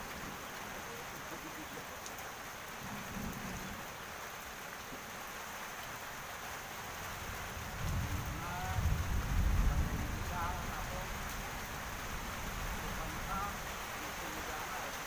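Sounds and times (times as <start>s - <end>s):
steady rain on wet ground: 0.0s - 15.0s.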